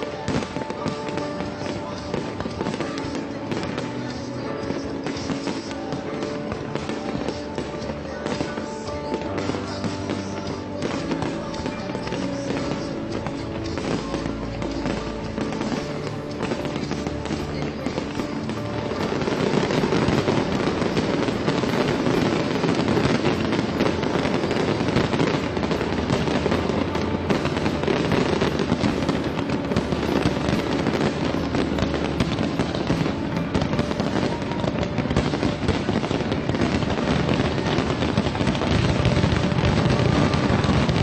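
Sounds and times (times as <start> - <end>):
fireworks crackling and popping: 0.0 - 41.0.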